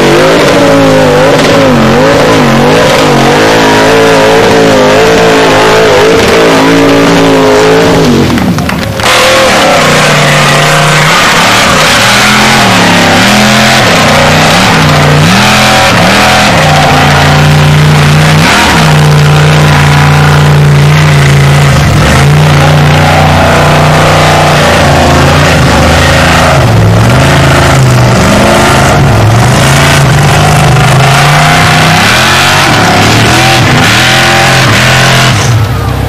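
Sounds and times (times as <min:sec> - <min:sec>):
buggy engine revving hard: 0:00.0 - 0:36.0.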